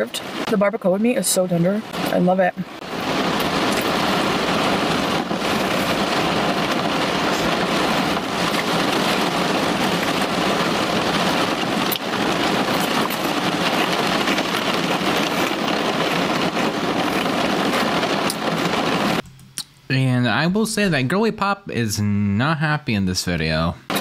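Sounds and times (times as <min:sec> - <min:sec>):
rain on car roof: 0:00.0 - 0:19.2.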